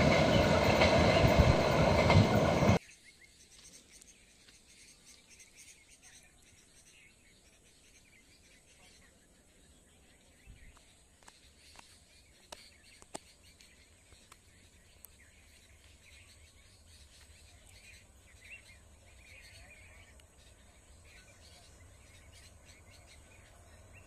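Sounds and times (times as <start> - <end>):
bird chirps: 0.0 - 24.0.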